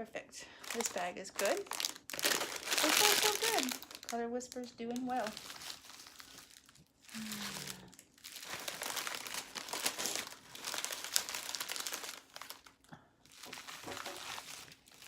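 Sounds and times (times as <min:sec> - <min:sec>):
plastic bags crinkling: 0:00.6 - 0:15.0.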